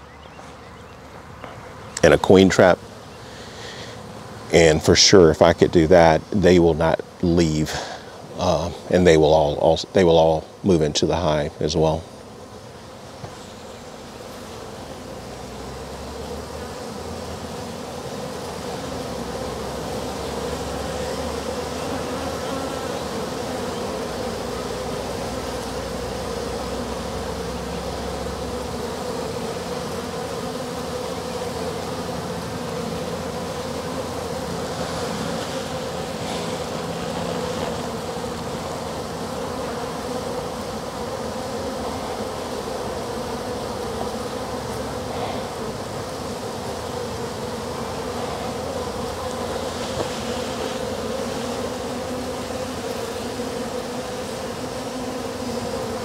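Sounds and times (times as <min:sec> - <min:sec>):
bee swarm buzzing: 0:00.0 - 0:56.0.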